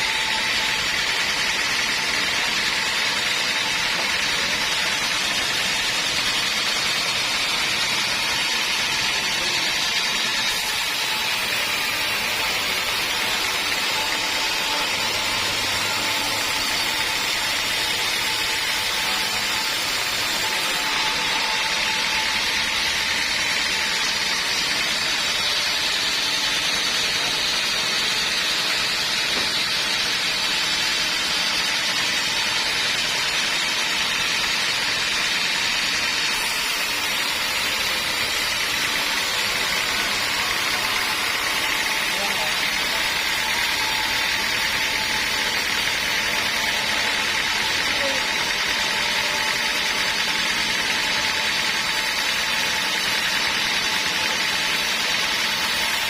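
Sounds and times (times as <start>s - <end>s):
band sawmill running: 0.0s - 56.0s.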